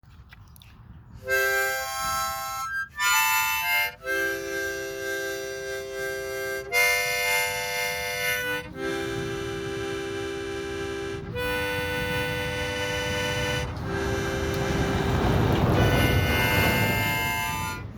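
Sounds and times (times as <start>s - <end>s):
harmonica playing chords: 1.2s - 17.9s.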